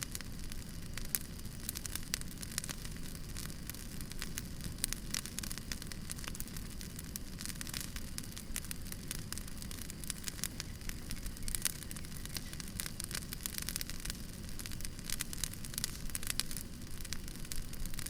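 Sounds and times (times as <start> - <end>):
firewood crackling and popping: 0.0 - 18.0
low rumble of fire: 0.0 - 18.0.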